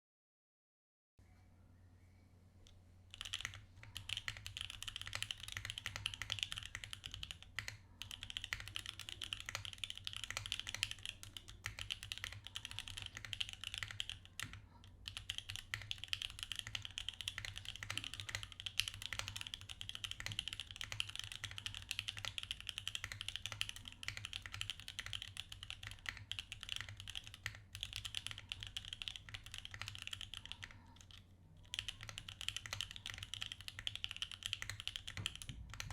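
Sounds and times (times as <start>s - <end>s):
faint low hum: 1.2s - 35.9s
mechanical keyboard typing: 3.1s - 35.9s.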